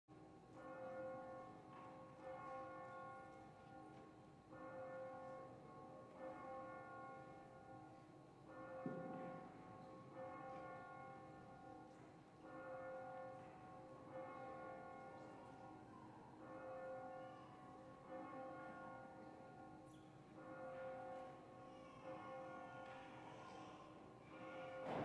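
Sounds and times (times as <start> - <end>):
church bell ringing: 0.2 - 25.0.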